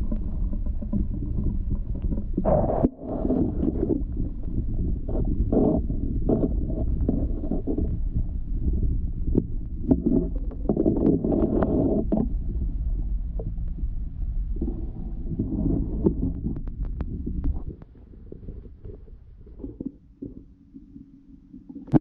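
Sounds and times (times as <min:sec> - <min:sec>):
underwater clicks and knocks: 0:00.0 - 0:12.7, 0:14.6 - 0:22.0
underwater low rumble: 0:00.0 - 0:22.0.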